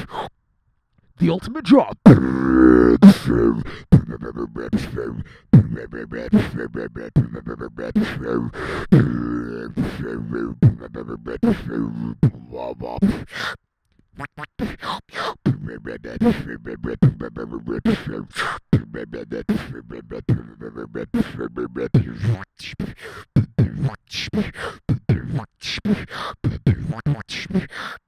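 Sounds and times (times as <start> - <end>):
beatboxing into microphone: 0.0 - 0.3, 1.2 - 28.0.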